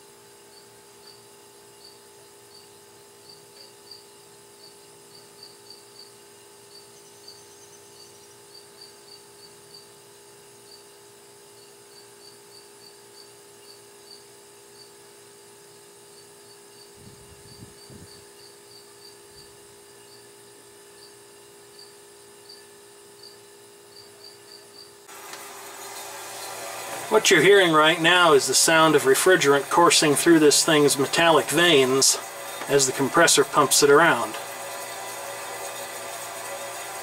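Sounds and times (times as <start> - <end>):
refrigerator compressor hum: 0.0 - 37.0.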